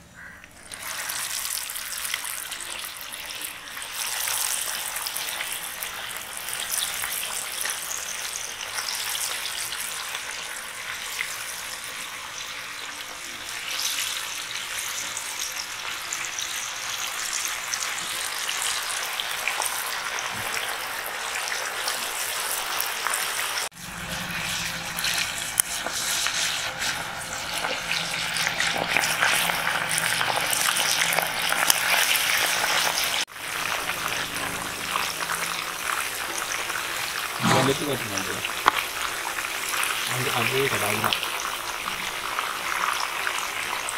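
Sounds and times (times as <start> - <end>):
fish sizzling in hot oil: 0.2 - 43.9.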